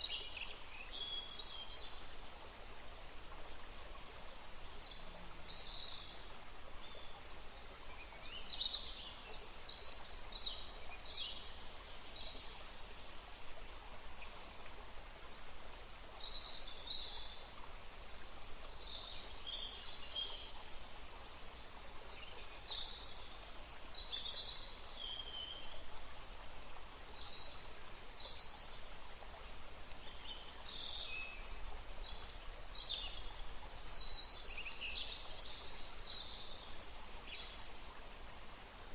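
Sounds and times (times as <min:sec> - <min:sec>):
soft background hiss: 0:00.0 - 0:38.9.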